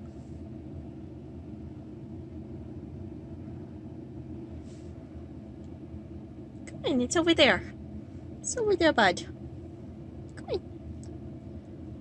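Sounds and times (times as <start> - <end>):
low room rumble and hum: 0.0 - 12.0.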